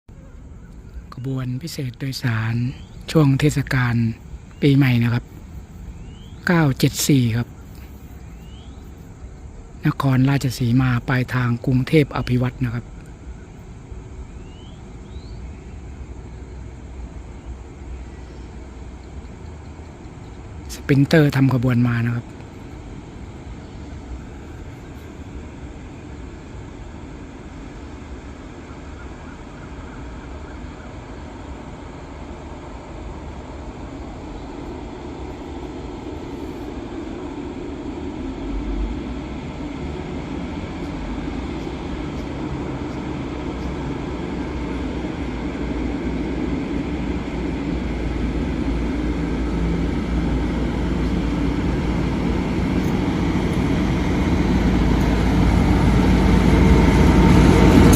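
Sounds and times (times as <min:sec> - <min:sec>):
train engine and wheel rumble: 0:00.0 - 0:57.9.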